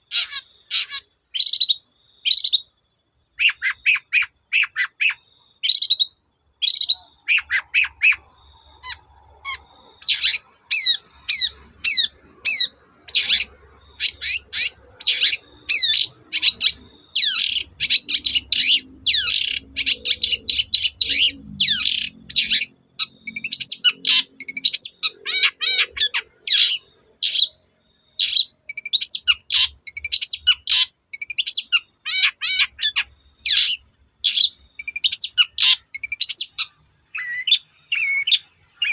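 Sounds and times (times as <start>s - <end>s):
shrike singing trills: 0.0s - 2.7s, 3.4s - 38.9s.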